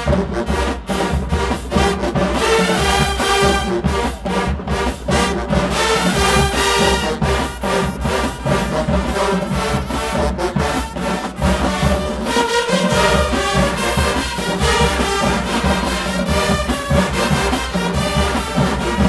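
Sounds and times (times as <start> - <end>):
drums beat: 0.0 - 19.0
marching band playing: 0.0 - 19.0
trombones and trumpets: 0.0 - 19.0.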